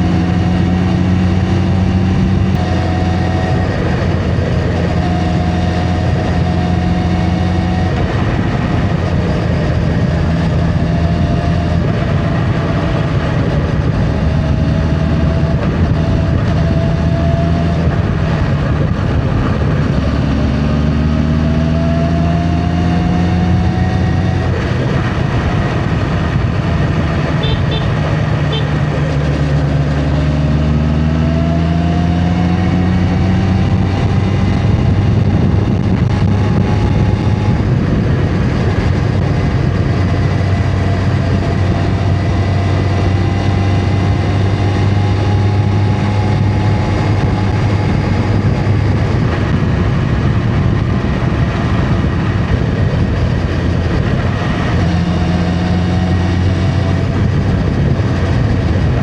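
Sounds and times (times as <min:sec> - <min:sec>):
motorcycle engine accelerating: 0:00.0 - 0:59.0
road and wind noise: 0:00.0 - 0:59.0.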